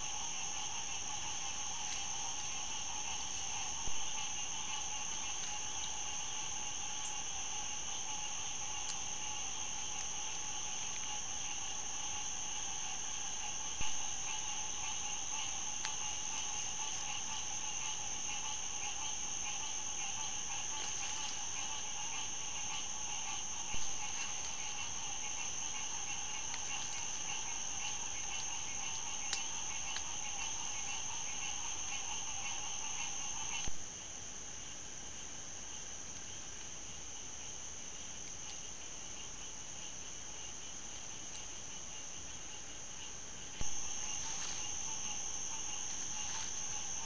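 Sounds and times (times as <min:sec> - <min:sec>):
crickets and insects trilling: 0:00.0 - 0:47.0.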